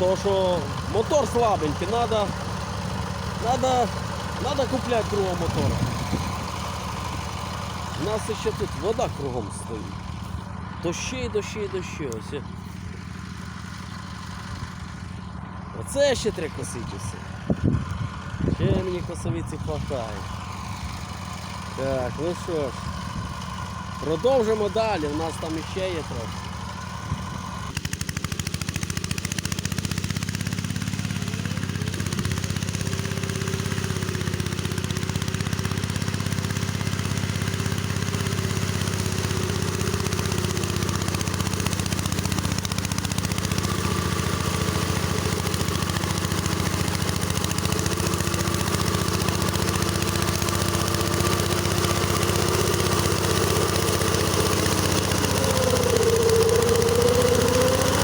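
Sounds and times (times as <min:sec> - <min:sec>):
mower engine running under load: 0:00.0 - 0:58.0.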